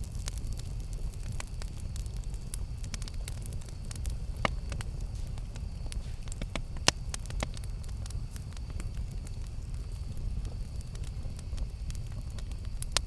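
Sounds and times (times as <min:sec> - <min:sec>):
campfire crackling and popping: 0:00.0 - 0:13.0
steady low rumble: 0:00.0 - 0:13.0.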